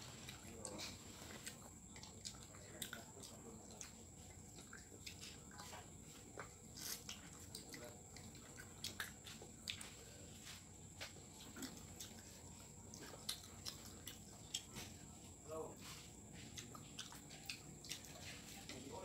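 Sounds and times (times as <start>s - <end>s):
chewing clicks and smacks: 0.1s - 15.1s, 16.2s - 19.0s.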